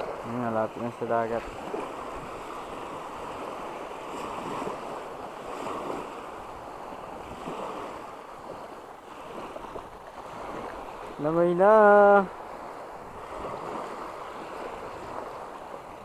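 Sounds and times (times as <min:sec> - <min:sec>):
small waves washing on sand: 0:00.0 - 0:16.0.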